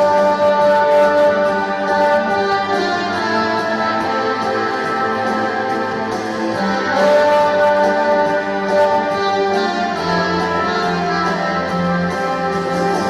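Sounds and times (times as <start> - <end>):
brass playing long held notes: 0.0 - 13.0.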